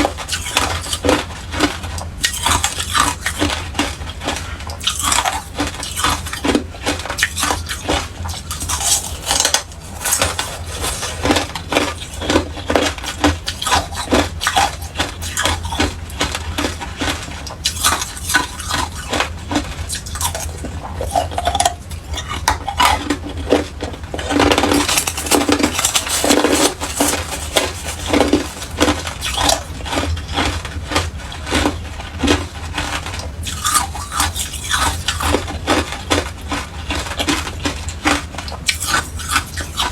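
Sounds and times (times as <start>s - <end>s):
ice being crunched: 0.0s - 39.9s.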